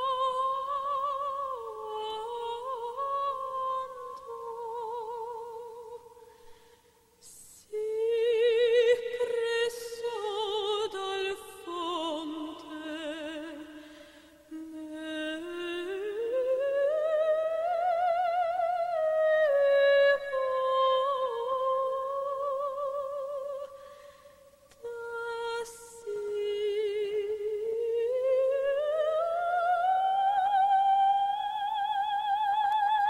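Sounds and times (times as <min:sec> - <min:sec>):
operatic high voice singing: 0:00.0 - 0:06.2, 0:07.3 - 0:23.8, 0:24.7 - 0:33.0.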